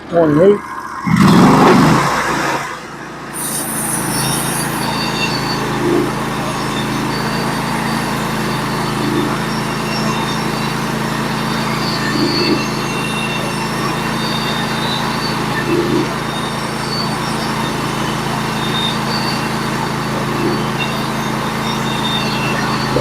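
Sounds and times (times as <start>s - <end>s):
band saw squealing whine: 0.0s - 23.0s
sawmill engine under load: 0.0s - 23.0s.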